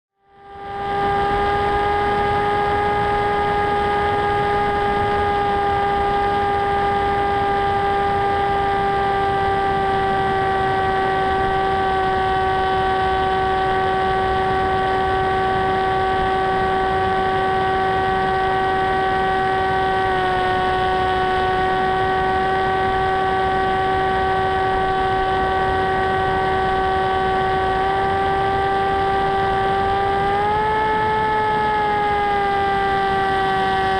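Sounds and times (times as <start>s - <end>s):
motor and propeller whining: 0.2s - 33.9s.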